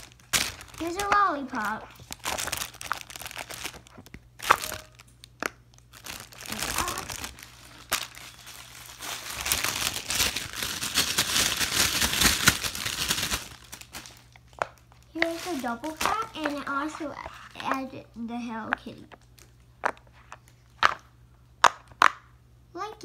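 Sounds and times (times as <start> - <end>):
plastic wrapper crinkling: 0.0 - 17.9, 19.0 - 21.0.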